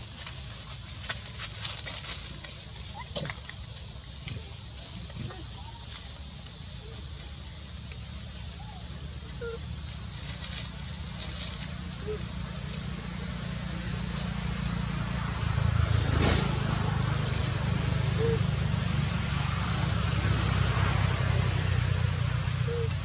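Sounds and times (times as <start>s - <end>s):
insects buzzing high-pitched: 0.0s - 23.0s.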